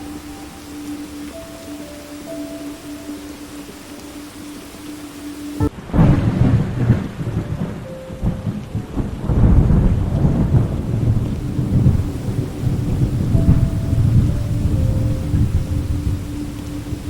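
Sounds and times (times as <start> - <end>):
faint sustained music tone: 0.0 - 5.7, 7.4 - 17.0
steady rain: 0.0 - 17.0
thunder rumbling: 0.0 - 17.0.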